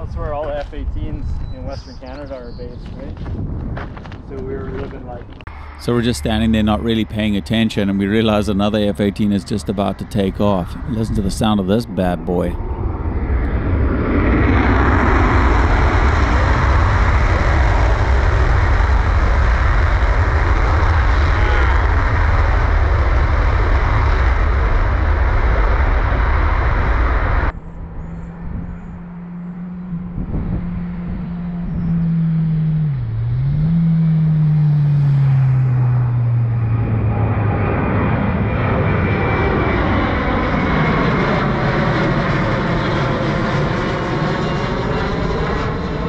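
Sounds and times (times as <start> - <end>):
jet engine roar: 0.0 - 46.0
engine drone: 3.6 - 46.0.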